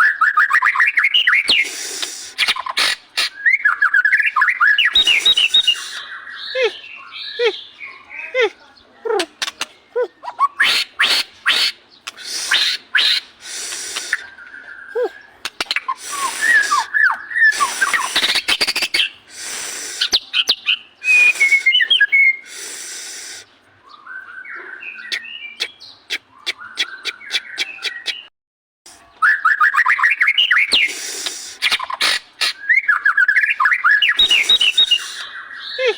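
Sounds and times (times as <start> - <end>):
bird singing whistles: 0.0 - 2.7, 3.3 - 8.1, 10.3 - 28.3, 29.1 - 35.9
harsh rasping bird calls: 0.0 - 28.3, 29.4 - 35.9.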